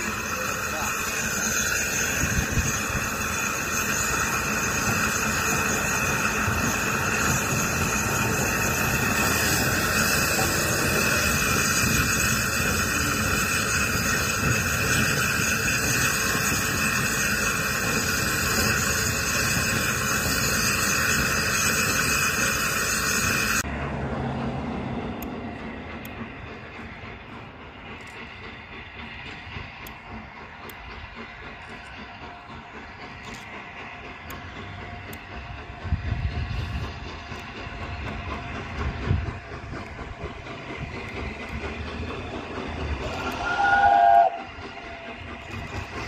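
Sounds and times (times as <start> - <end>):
loud hiss of steam: 0.0 - 23.6, 27.6 - 46.0
steam locomotive passing: 0.0 - 46.0.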